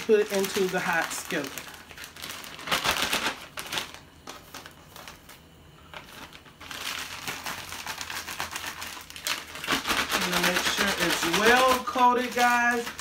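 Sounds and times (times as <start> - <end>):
plastic bag crinkling while shaken: 0.0 - 13.0.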